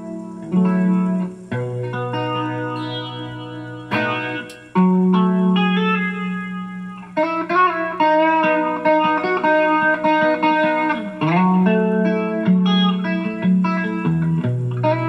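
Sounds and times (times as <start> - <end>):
electric guitar with effects: 0.0 - 15.0.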